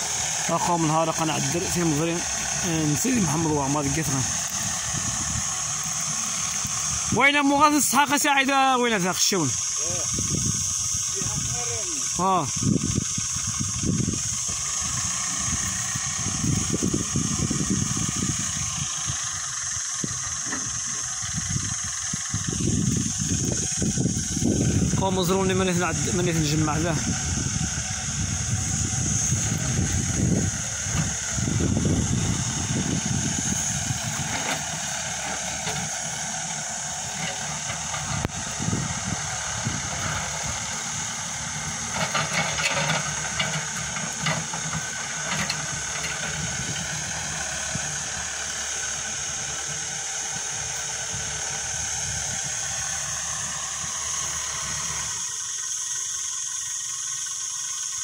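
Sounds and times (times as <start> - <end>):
diesel engine rumbling: 0.0 - 58.0
steady high hiss: 0.0 - 58.0.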